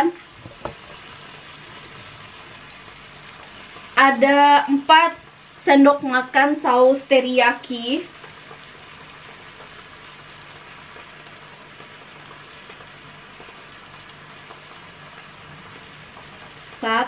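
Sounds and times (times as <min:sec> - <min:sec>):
chicken frying in butter: 0:00.0 - 0:17.0.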